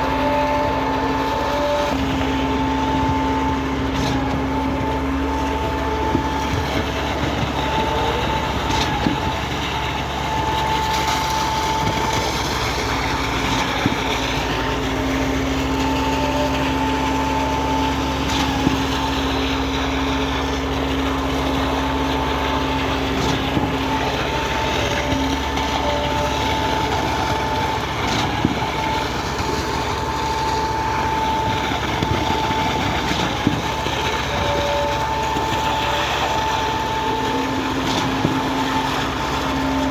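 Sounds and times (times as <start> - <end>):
concrete pump engine drone: 0.0 - 39.9
machine whine: 0.0 - 39.9.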